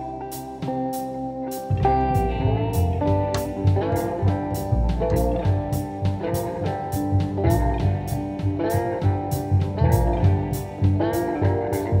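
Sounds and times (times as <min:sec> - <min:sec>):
guitar tune with bending notes: 0:00.0 - 0:12.0
steady drum beat: 0:00.4 - 0:12.0.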